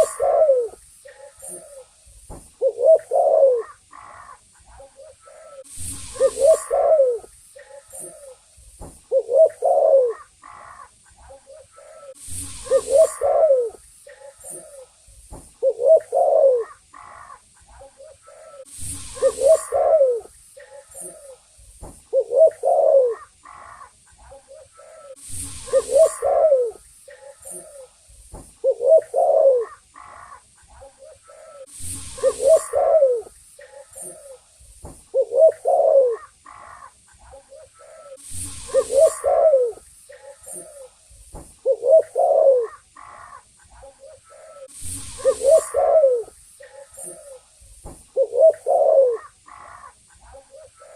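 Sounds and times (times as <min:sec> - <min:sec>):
dove cooing: 0:00.0 - 0:02.0, 0:02.6 - 0:08.5, 0:09.1 - 0:15.0, 0:15.6 - 0:21.5, 0:22.1 - 0:28.0, 0:28.6 - 0:34.4, 0:35.1 - 0:41.0, 0:41.6 - 0:47.4, 0:48.1 - 0:50.9.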